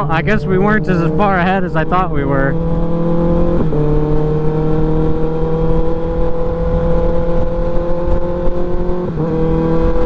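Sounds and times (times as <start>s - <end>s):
wind rush: 0.0s - 10.0s.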